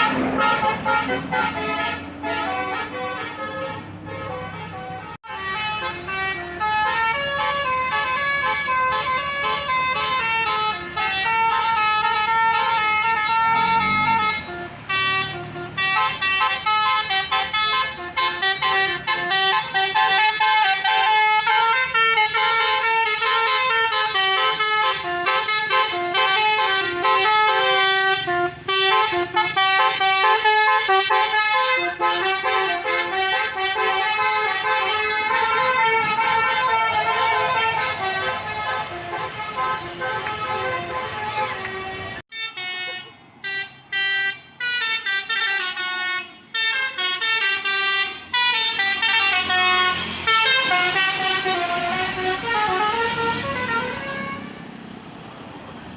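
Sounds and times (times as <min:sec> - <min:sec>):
electric air horn melody: 0:00.0 - 0:54.5.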